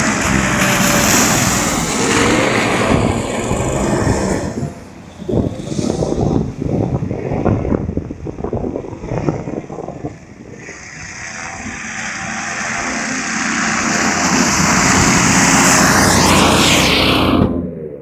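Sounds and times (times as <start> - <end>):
airboat engine and propeller: 0.0 - 18.0.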